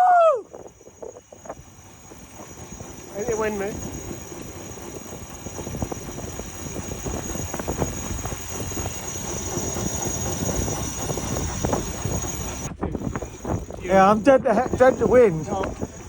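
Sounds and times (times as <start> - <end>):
wind buffeting microphone: 0.0 - 16.0
fluttering knocks: 0.5 - 16.0.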